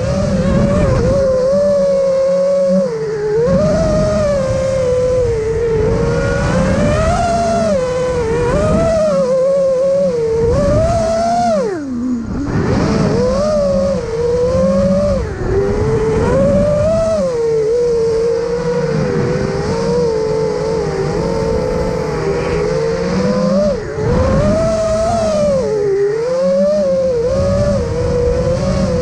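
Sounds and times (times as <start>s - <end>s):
quadcopter propellers whining: 0.0s - 29.0s.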